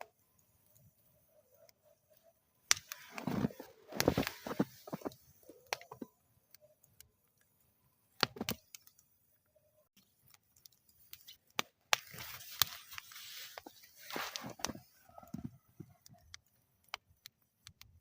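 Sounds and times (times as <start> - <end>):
wood fire crackling and popping: 0.0 - 9.1, 10.0 - 18.0.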